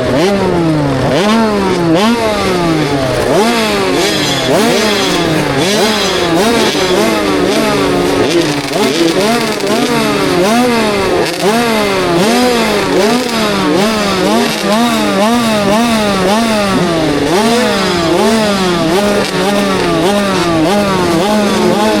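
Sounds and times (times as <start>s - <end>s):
two-stroke motocross bike revving: 0.0s - 22.0s.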